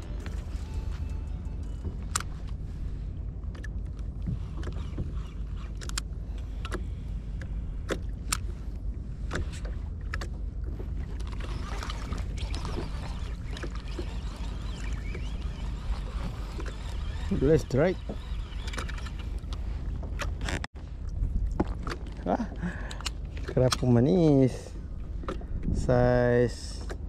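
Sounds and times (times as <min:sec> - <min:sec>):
wind and water rumble: 0:00.0 - 0:27.0.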